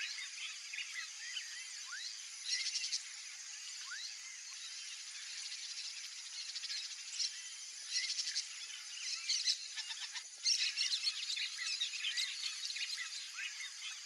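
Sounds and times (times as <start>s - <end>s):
birds chirping and whistling: 0.0s - 14.0s.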